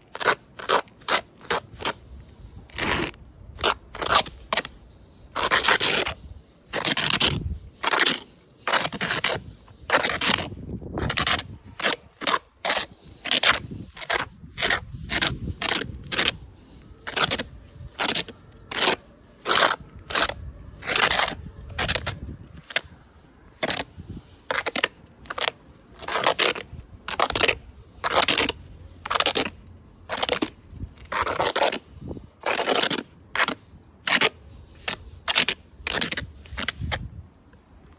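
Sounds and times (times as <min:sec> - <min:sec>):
hand tool scraping: 0:02.7 - 0:37.0.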